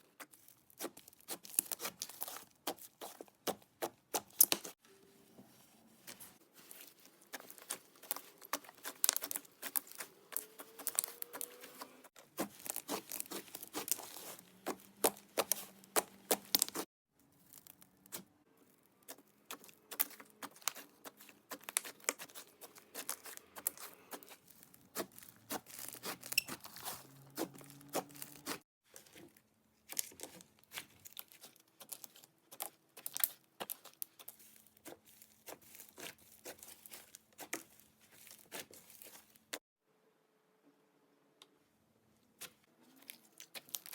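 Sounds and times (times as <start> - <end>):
slime sticky crackles: 0.0 - 4.8, 5.9 - 18.3, 19.0 - 28.6, 29.9 - 39.6, 42.4 - 43.9.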